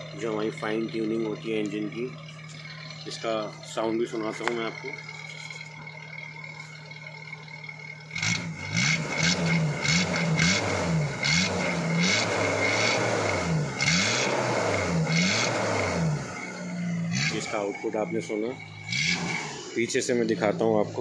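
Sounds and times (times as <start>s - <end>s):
car engine idling: 0.0s - 21.0s
engine throttle blips: 0.0s - 21.0s.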